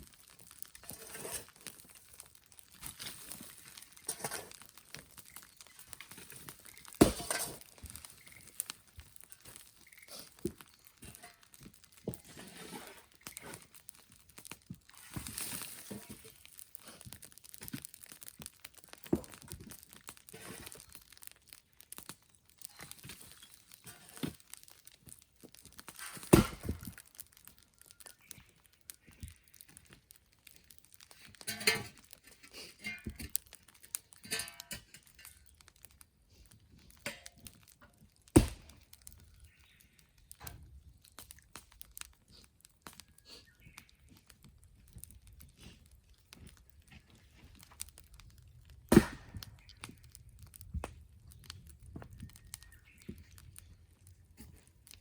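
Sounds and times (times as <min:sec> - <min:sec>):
sharp pops from fire: 0:00.0 - 0:55.0
wood fire crackling: 0:00.0 - 0:55.0.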